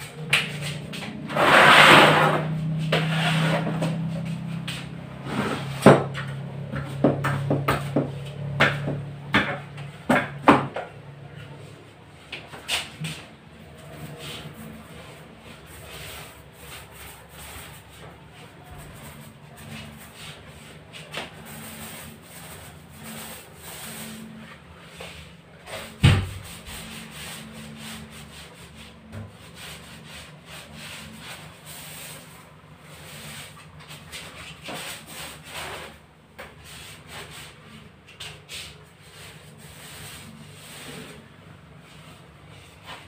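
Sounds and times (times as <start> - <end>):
paint roller swishing on wall: 0.0 - 43.0.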